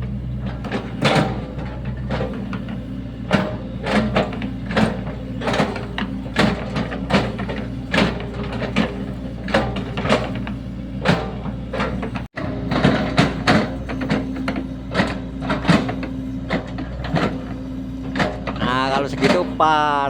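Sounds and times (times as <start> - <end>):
excavator bucket clanking and scraping: 0.0 - 20.0
excavator diesel engine running: 0.0 - 20.0.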